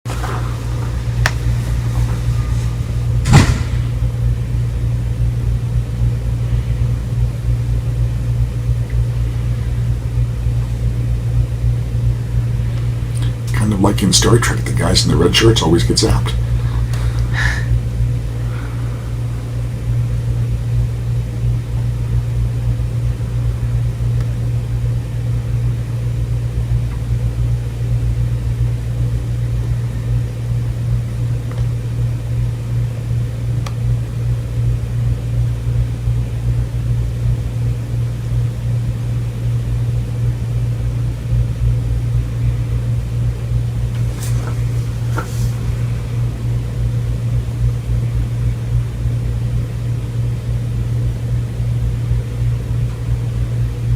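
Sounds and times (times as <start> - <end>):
low rumble and hum: 0.0 - 53.9.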